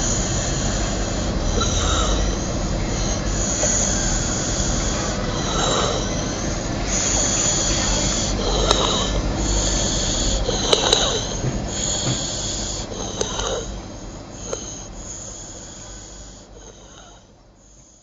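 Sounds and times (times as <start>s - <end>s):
child's harsh noisy breathing: 0.0s - 18.0s.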